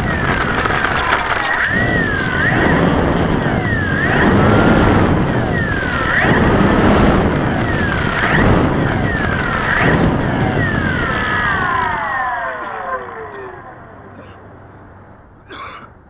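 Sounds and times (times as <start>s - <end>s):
electric motor whining: 0.0s - 15.4s
propeller wash rushing: 0.0s - 15.6s.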